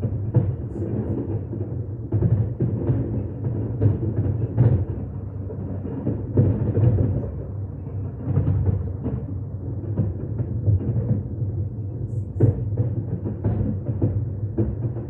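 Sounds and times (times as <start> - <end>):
fireworks booms and cracks: 0.0 - 7.4, 8.2 - 9.2, 9.8 - 11.3, 12.1 - 15.0
fireworks low rumble: 0.0 - 15.0.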